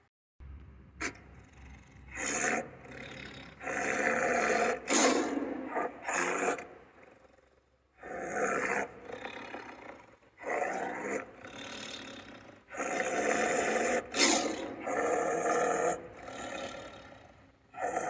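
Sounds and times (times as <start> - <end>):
tiger roaring and growling: 1.0 - 18.0.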